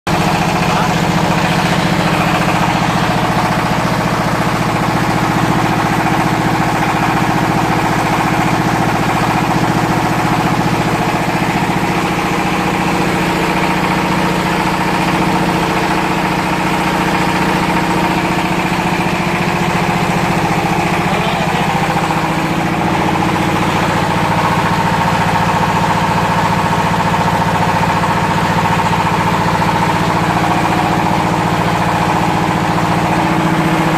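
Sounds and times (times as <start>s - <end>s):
pellet machine mechanical drone: 0.1s - 33.9s.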